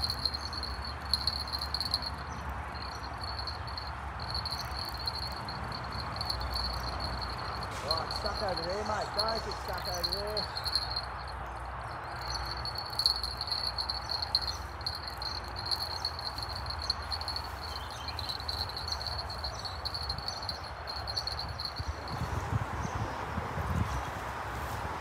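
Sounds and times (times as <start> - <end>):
insect chirring: 0.0 - 11.3, 12.1 - 22.1.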